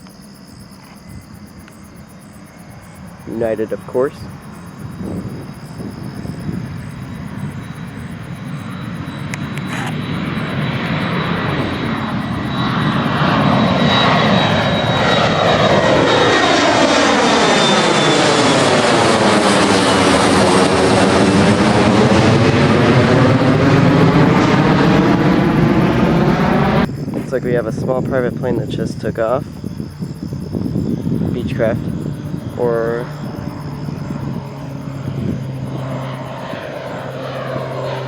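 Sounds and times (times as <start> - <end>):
jet engines roaring on takeoff: 0.0 - 38.0.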